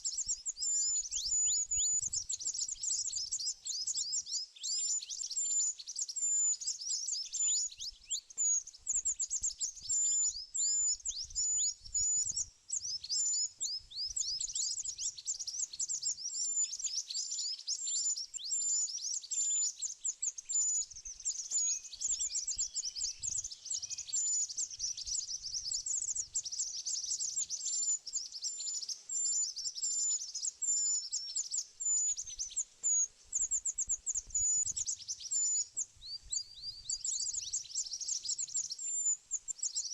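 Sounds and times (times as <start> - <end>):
small bird high thin chirps: 0.0 - 39.9.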